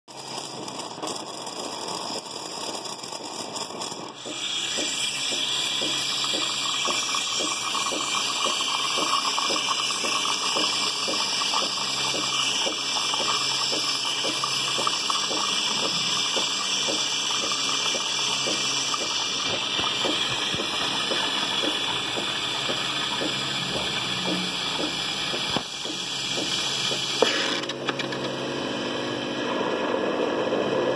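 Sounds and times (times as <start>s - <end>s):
coffee machine pump: 0.1s - 30.9s.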